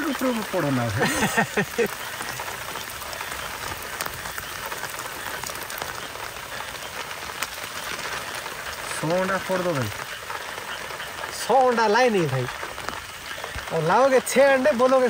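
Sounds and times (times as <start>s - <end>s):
steady heavy rain: 0.0s - 15.0s.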